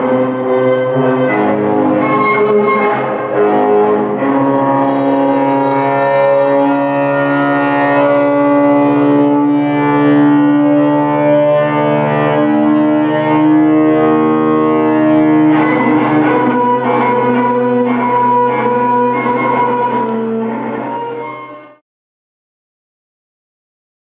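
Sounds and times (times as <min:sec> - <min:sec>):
ambient drone guitar tones: 0:00.0 - 0:21.8.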